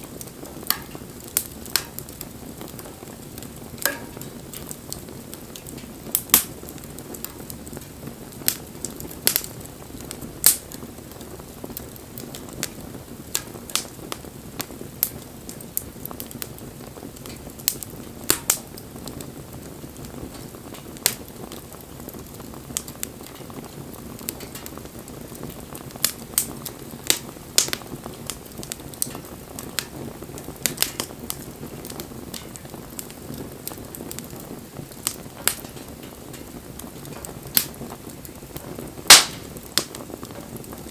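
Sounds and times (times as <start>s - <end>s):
bonfire flames rushing: 0.0s - 40.9s
burning wood popping and crackling: 0.0s - 40.9s.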